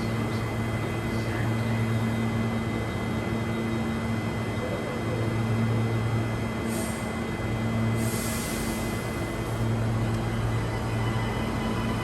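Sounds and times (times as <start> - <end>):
electric train humming and whining: 0.0 - 12.0.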